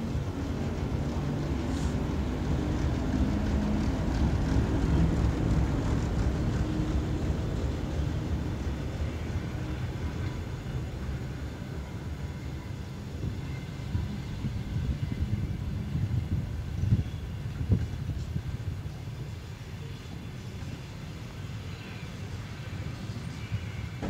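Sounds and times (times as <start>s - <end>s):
diesel locomotive engine droning: 0.0s - 24.0s
train wheels rumbling on rails: 0.0s - 24.0s.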